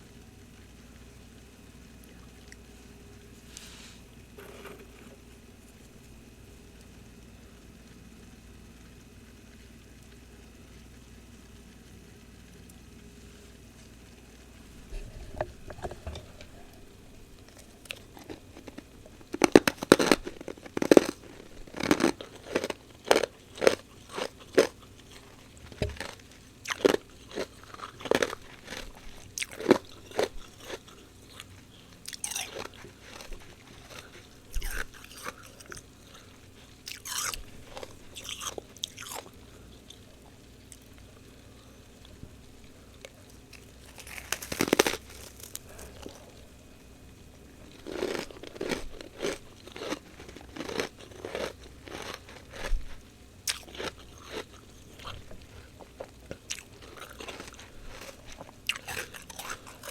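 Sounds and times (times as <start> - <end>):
frost being chewed with crunches: 1.9 - 7.1, 13.4 - 59.9.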